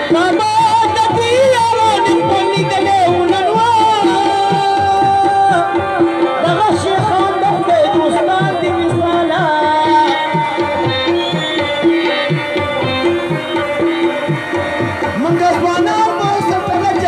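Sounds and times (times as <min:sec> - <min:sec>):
bending melody: 0:02.1 - 0:17.0.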